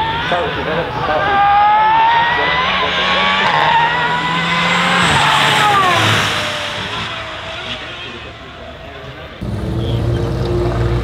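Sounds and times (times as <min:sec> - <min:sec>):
car engine revving past: 0:01.4 - 0:11.0.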